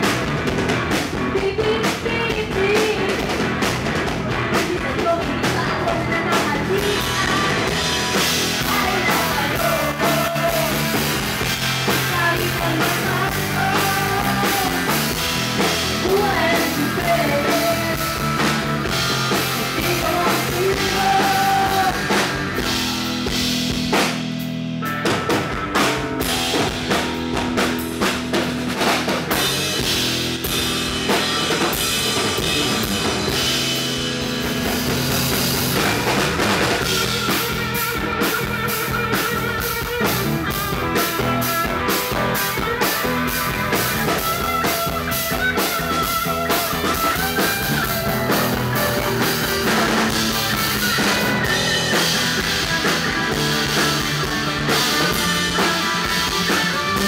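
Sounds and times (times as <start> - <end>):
drum kit: 0.0 - 57.0
rock band playing: 0.0 - 57.0.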